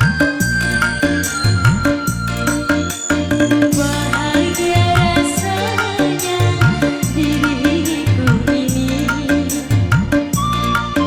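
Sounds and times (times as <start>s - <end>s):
drum beat: 0.0s - 11.0s
pop instrumental music: 0.0s - 11.0s
repeated bass notes: 0.0s - 11.0s.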